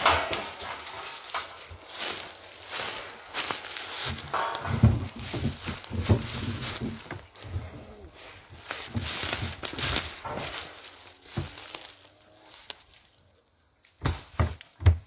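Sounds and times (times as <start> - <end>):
footsteps crunching dry leaves: 0.0 - 13.8.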